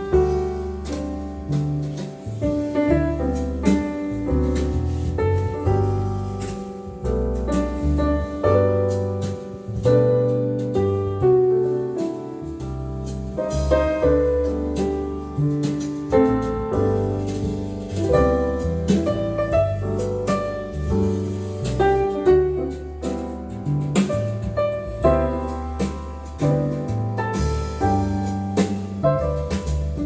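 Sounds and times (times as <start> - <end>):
piano music with deep bass: 0.0 - 30.0.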